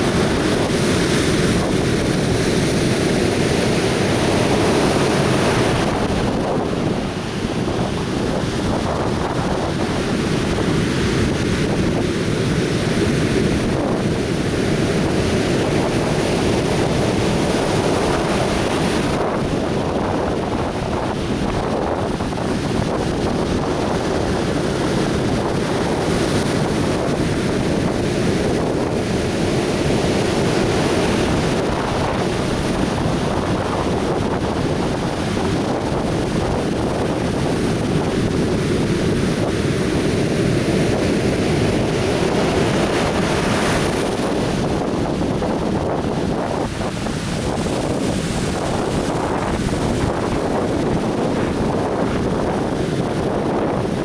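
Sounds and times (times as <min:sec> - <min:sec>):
surf breaking on beach: 0:00.0 - 0:54.0
wind buffeting microphone: 0:00.0 - 0:54.0.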